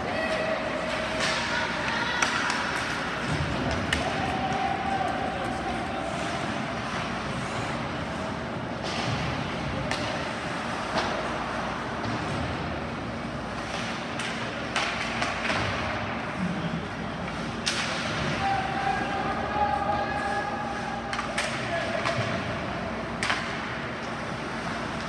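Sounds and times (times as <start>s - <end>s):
hockey sticks and puck cracks: 0.0s - 25.0s
ice rink noise: 0.0s - 25.0s.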